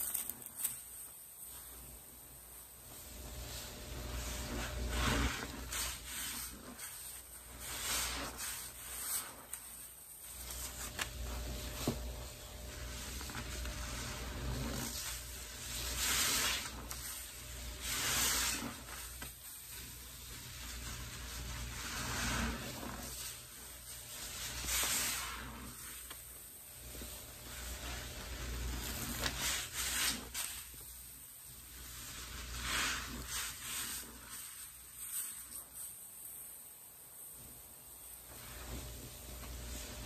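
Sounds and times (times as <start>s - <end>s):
wet sponge squishing: 2.8s - 36.6s, 37.4s - 40.0s.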